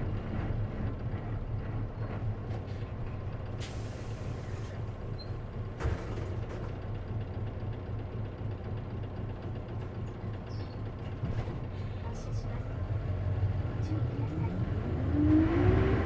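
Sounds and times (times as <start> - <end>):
bus diesel engine humming: 0.0 - 16.0.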